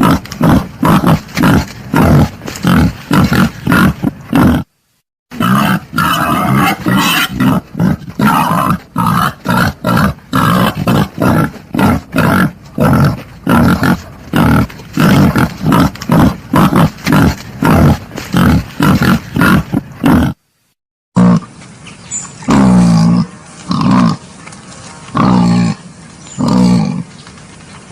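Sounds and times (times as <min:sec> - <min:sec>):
wild boar grunting and squealing: 0:00.0 - 0:04.7, 0:05.4 - 0:20.4, 0:21.2 - 0:21.5, 0:22.4 - 0:24.3, 0:25.1 - 0:27.1.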